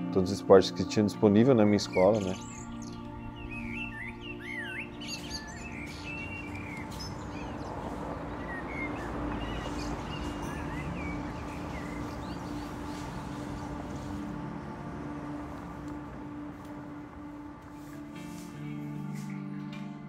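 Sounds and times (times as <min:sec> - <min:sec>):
birds chirping: 0:00.8 - 0:18.5
distant city noise: 0:02.4 - 0:19.3.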